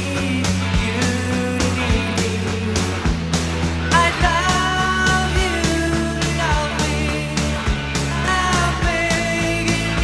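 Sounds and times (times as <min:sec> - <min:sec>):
rock music with vocals: 0:00.0 - 0:10.0.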